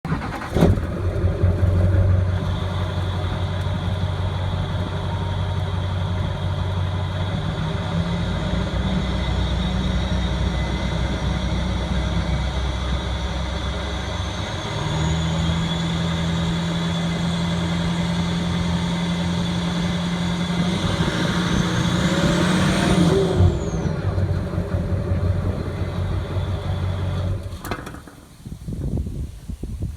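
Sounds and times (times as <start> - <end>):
engine revving: 0.1 - 27.5
diesel engine running: 0.1 - 27.7.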